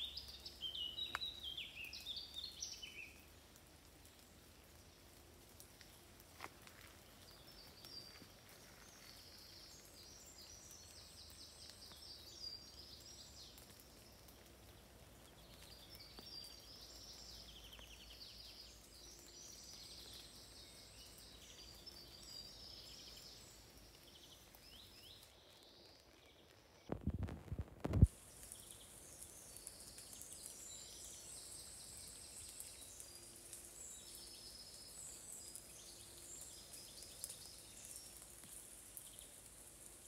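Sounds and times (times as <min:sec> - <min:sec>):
faint birdsong twitters and trills: 0:00.0 - 0:40.0.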